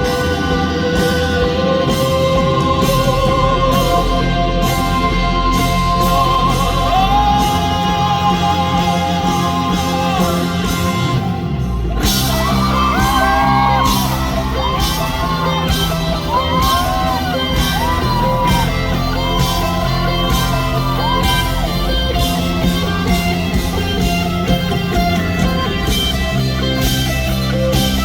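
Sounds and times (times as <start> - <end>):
live band with steady beat: 0.0 - 28.0
sliding wordless lead melody: 0.0 - 28.0.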